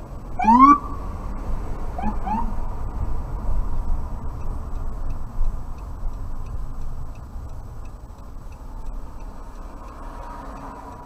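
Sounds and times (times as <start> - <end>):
car engine and tyre rumble: 0.0 - 11.0
turn signal ticking: 0.0 - 11.0.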